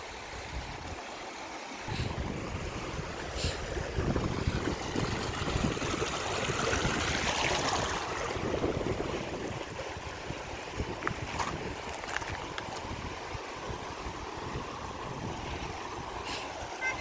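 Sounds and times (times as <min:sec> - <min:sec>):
stream water running: 0:00.0 - 0:17.0
wind buffeting microphone: 0:01.8 - 0:16.8.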